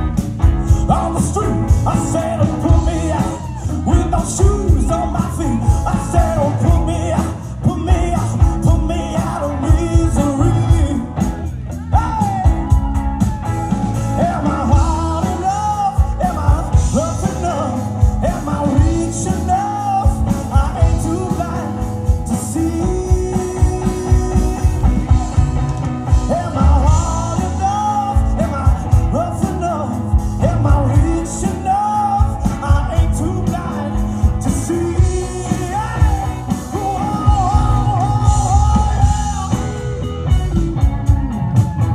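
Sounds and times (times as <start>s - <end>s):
rock band playing live: 0.0s - 41.9s
steady drum beat: 0.0s - 41.9s.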